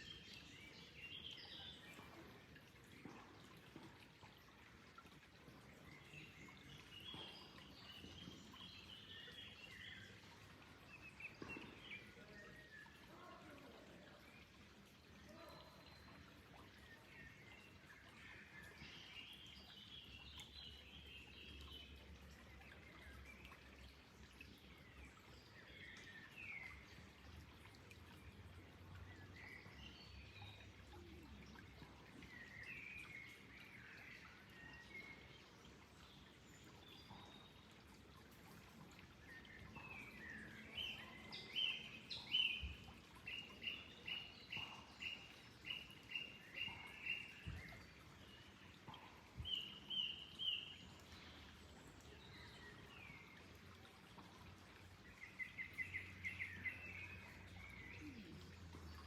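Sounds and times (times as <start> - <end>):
faint birdsong: 0.0 - 59.0
low steady background noise: 0.0 - 59.0.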